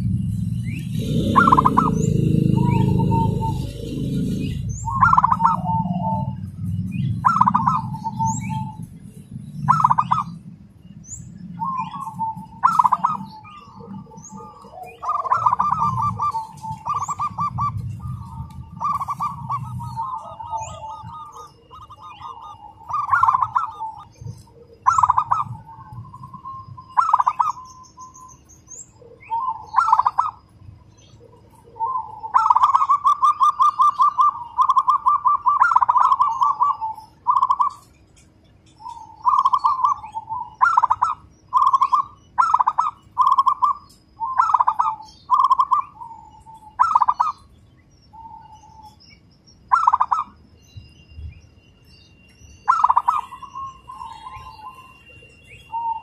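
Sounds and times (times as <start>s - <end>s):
dove cooing rapidly: 0.0s - 9.0s, 9.6s - 10.4s, 11.2s - 27.8s, 28.9s - 37.9s, 38.8s - 47.5s, 49.7s - 50.4s, 52.7s - 54.9s.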